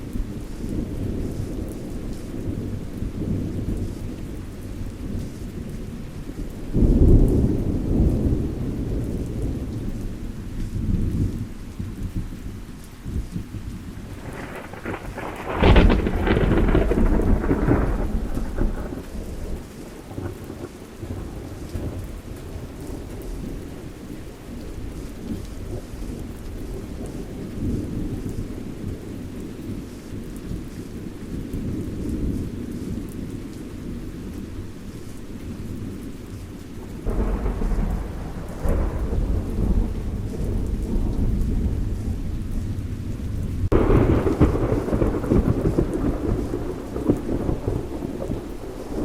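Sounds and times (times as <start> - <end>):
rolling thunder: 0.0 - 12.4, 13.1 - 34.3, 36.8 - 49.0
rain falling: 0.0 - 49.0.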